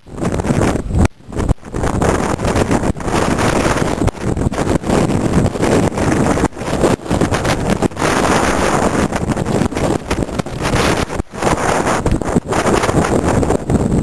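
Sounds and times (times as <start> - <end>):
wind blowing on microphone: 0.0 - 14.0.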